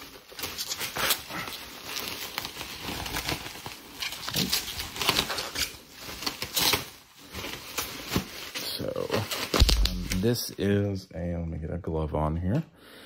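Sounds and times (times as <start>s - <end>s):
bubble wrap crinkling: 0.0s - 10.9s.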